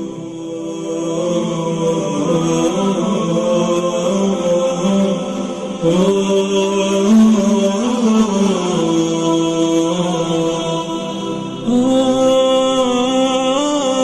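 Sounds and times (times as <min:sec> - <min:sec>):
chant-like vocal music: 0:00.0 - 0:14.0.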